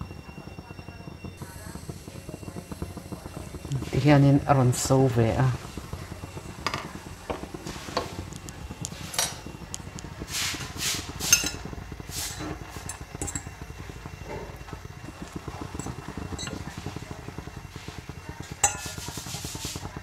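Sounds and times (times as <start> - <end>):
utensil scraping cooking pot: 1.4 - 20.0.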